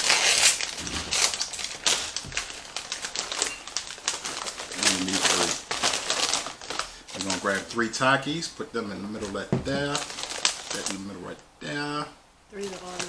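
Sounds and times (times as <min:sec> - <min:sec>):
plastic snack bag crinkling: 0:00.0 - 0:11.4, 0:12.6 - 0:13.0.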